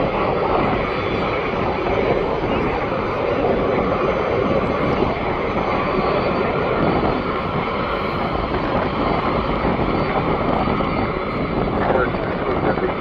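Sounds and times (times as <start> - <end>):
aircraft engines roaring: 0.0 - 13.0.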